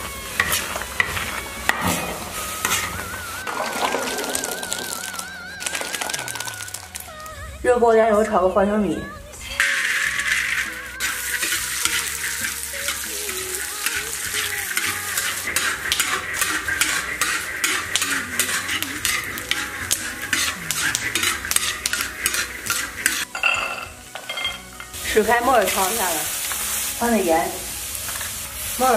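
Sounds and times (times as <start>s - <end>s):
metal spatula scraping wok: 0.0s - 6.2s, 9.4s - 28.9s
peanuts sizzling in oil: 0.0s - 7.3s, 9.4s - 28.9s.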